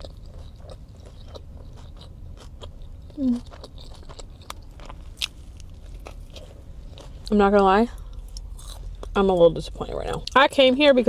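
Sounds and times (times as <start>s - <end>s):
person chewing food: 0.0s - 9.2s.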